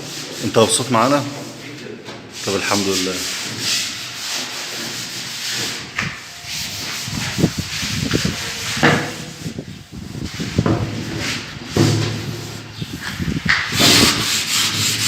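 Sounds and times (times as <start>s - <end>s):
sandpaper rubbing on wood: 0.0s - 1.6s, 2.4s - 15.0s.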